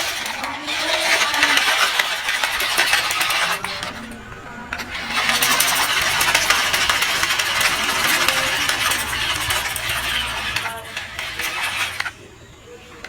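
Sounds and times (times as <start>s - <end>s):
dense rattling and clicking: 0.0s - 12.4s
small motor running: 0.0s - 12.9s.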